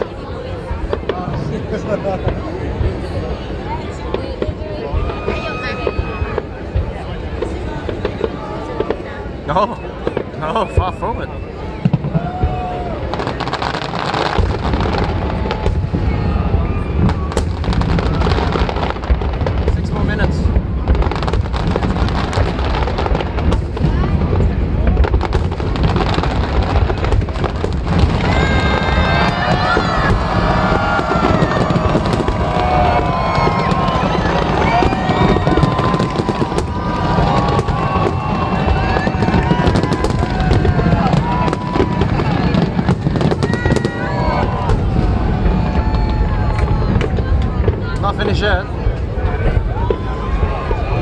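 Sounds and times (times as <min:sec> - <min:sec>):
fireworks booming: 0:00.0 - 0:51.0
fireworks crackling: 0:00.0 - 0:51.0
sharp firework bangs: 0:10.0 - 0:51.0.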